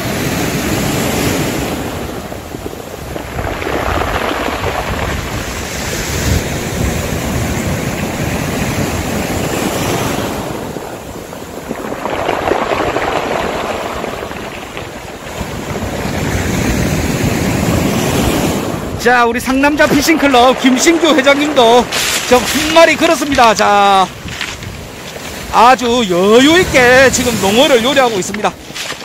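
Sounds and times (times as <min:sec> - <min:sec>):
waves breaking on pebble beach: 0:00.0 - 0:29.0
wind rumbling on microphone: 0:00.0 - 0:29.0.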